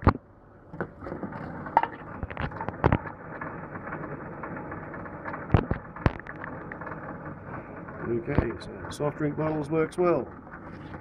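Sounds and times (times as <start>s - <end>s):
conveyor belt mechanical noise: 0.0s - 11.0s.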